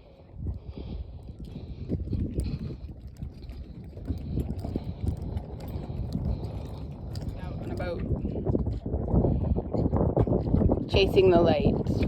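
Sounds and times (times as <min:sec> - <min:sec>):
water slapping boat hull: 0:00.0 - 0:12.0.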